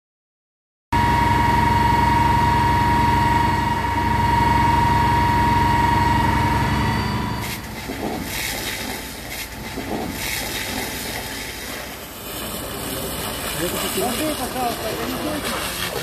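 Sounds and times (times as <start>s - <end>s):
fire engine running: 1.0s - 16.0s
high pump whine: 1.0s - 16.0s.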